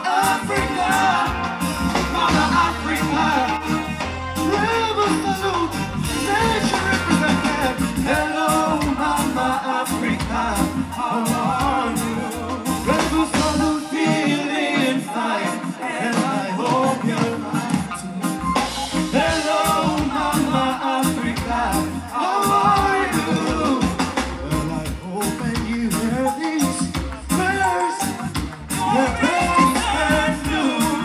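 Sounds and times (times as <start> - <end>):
person singing: 0.0 - 31.0
reggae band playing: 0.0 - 31.0.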